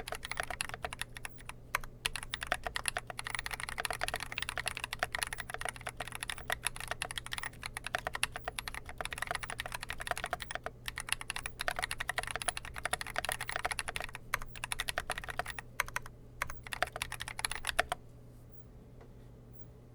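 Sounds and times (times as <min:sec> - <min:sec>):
mechanical keyboard typing: 0:00.0 - 0:18.0.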